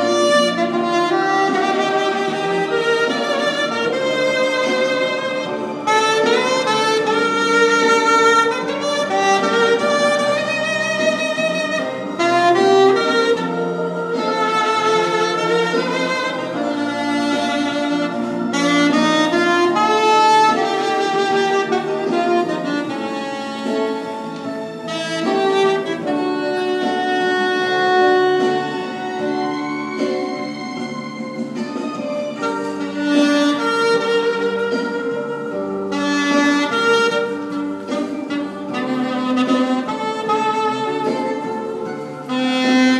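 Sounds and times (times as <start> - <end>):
low held accompaniment notes: 0.0 - 42.9
saxophone playing jazz melody: 0.0 - 42.9.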